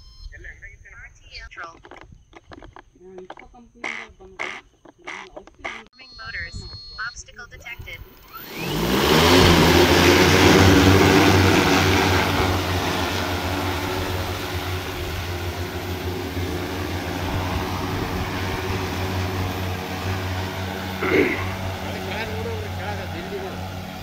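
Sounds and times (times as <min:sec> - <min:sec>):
drone propeller hum: 0:01.8 - 0:05.9, 0:07.6 - 0:24.0.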